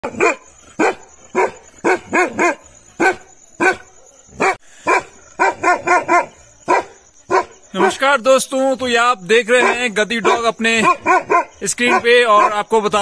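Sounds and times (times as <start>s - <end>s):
dog barking: 0.0s - 8.0s, 9.5s - 12.7s.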